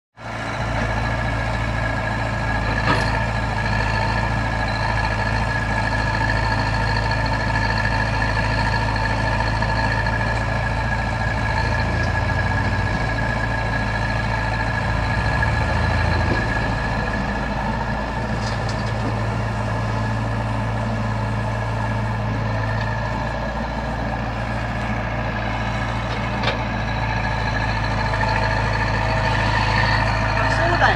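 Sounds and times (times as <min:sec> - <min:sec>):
excavator diesel engine running: 0:00.2 - 0:30.9.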